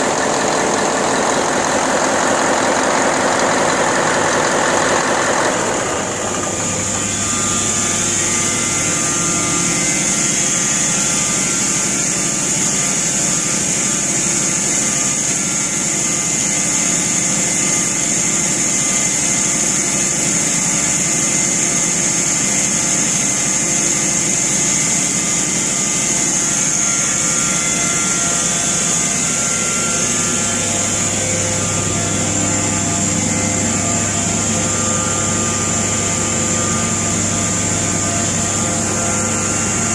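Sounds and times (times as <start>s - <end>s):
high whine: 0.0s - 16.2s, 23.9s - 39.9s
diesel engine running: 0.0s - 39.9s.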